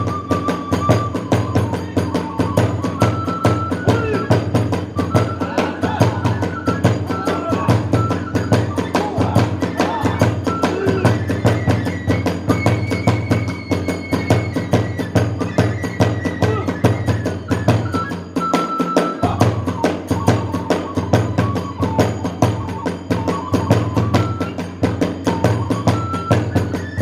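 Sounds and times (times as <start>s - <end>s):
bamboo flute long notes: 0.0s - 27.0s
drums beating fast rhythm: 0.0s - 27.0s
hand cymbals: 0.0s - 27.0s.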